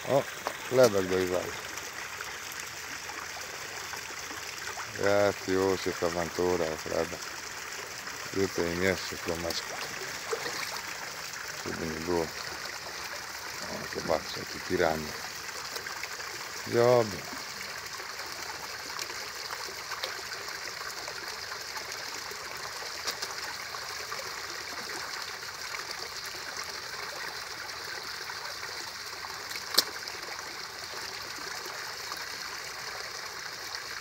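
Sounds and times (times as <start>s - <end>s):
water trickling into pond: 0.0s - 34.0s.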